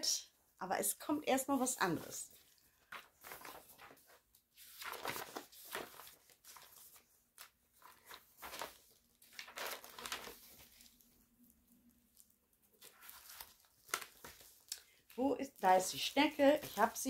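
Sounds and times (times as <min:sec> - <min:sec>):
paper rustling: 0:02.0 - 0:17.0.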